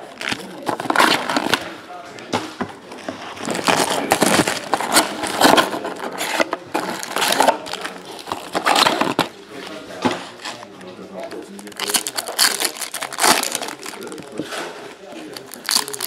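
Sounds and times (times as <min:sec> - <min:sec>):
plastic and foil packs crinkling: 0:00.0 - 0:01.7, 0:03.2 - 0:16.0.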